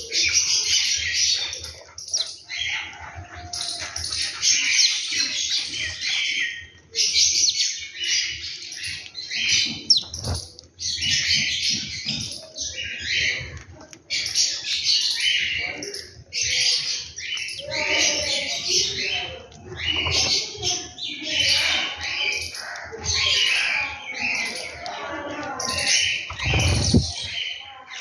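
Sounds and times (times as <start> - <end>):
sparrows chirping: 0.0 - 28.0.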